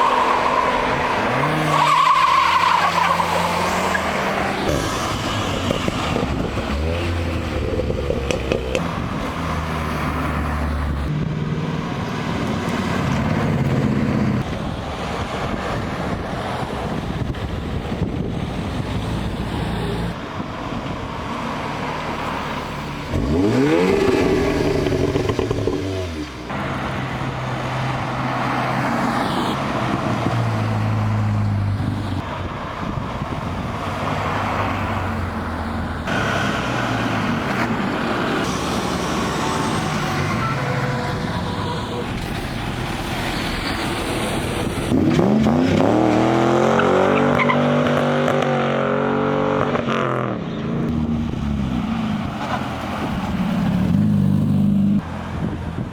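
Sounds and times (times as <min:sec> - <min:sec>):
car engines moving off: 0:00.0 - 0:55.9.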